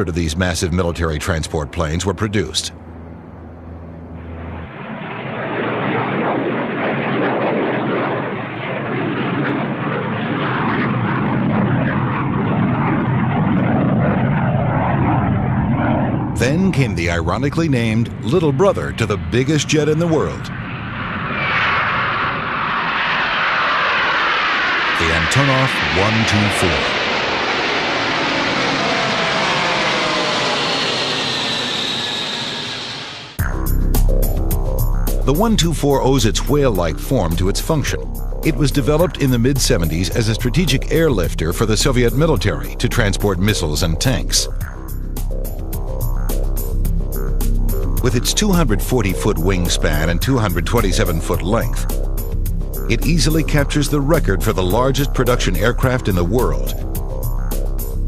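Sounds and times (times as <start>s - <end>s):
turboprop engines running: 0.0s - 58.0s.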